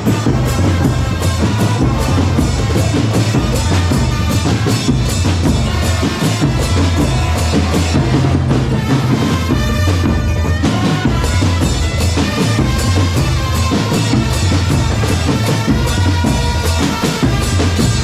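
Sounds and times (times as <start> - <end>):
drum corps playing: 0.0 - 18.0.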